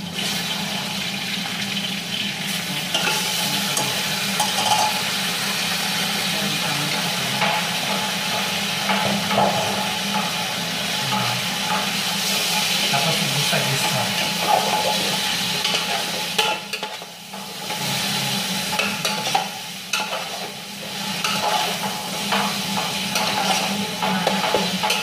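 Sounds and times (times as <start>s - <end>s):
chicken sizzling in a pot: 0.0s - 25.0s
utensil stirring a pot: 0.2s - 5.2s, 6.6s - 25.0s.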